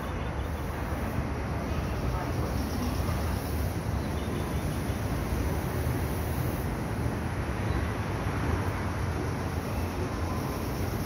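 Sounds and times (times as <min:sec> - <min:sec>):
railway platform rumble and hiss: 0:00.0 - 0:11.0.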